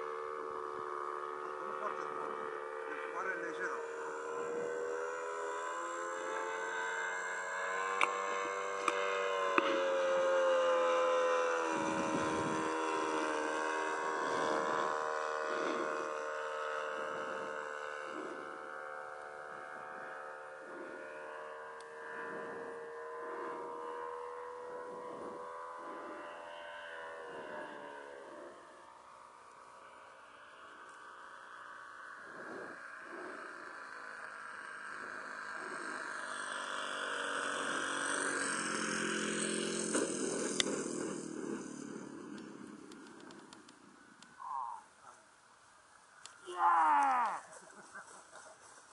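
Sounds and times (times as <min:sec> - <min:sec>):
propeller plane whine overhead: 0:00.0 - 0:48.9.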